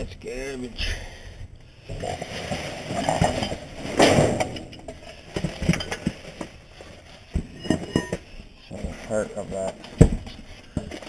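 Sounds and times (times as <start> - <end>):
items clinking and knocking: 1.9 - 11.0.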